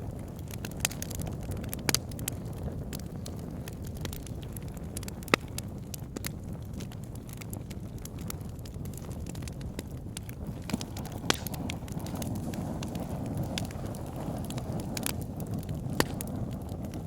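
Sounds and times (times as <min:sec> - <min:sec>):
logs crackling and popping: 0:00.0 - 0:17.0
low rush of flames: 0:00.0 - 0:17.0.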